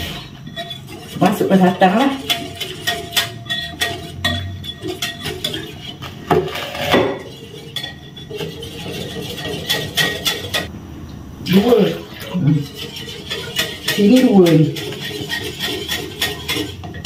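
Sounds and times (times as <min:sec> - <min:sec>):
whisk clinking against glass bowl: 0:00.4 - 0:10.7, 0:12.6 - 0:17.0.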